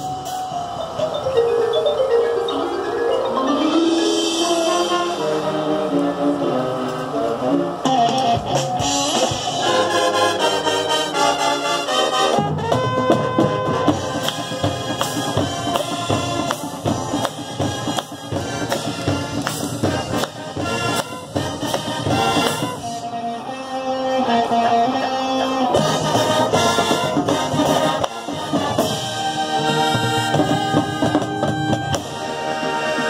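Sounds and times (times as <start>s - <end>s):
marching band playing: 0.0s - 33.0s.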